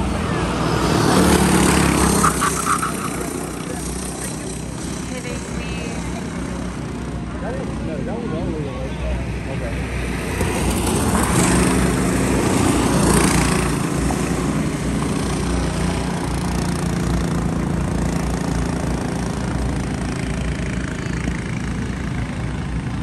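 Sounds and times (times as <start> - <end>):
kart engines running: 0.0 - 23.0.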